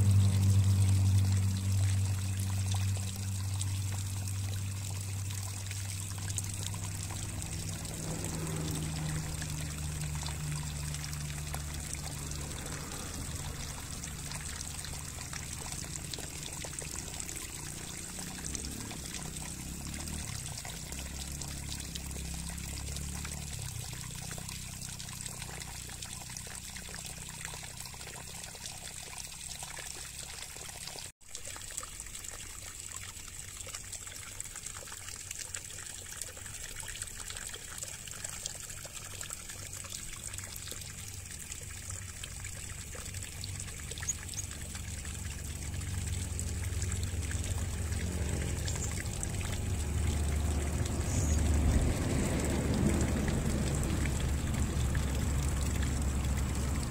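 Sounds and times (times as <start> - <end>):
water trickling and pouring: 0.0 - 56.9.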